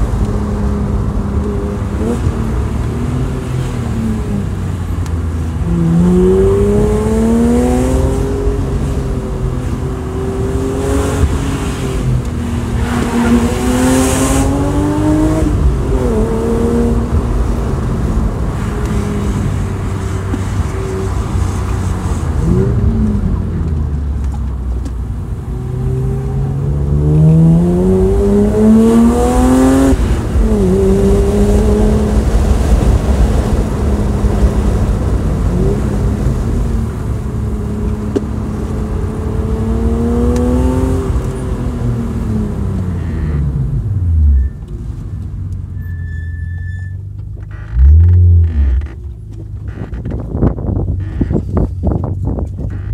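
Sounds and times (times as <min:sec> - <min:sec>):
car engine revving: 0:00.0 - 0:24.3, 0:25.3 - 0:44.5.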